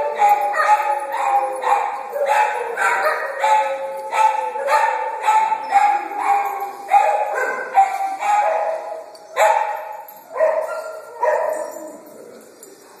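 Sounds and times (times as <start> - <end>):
dogs howling: 0.0 - 9.7, 10.3 - 12.6.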